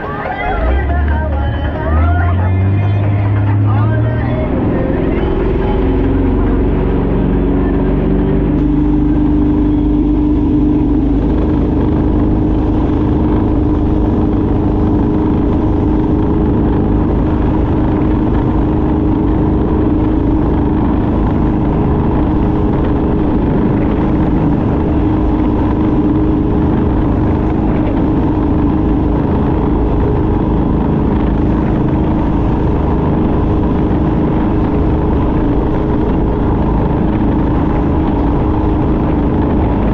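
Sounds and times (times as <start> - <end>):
constant rush of noise: 0.0 - 39.9
speedboat engine running: 0.0 - 39.9.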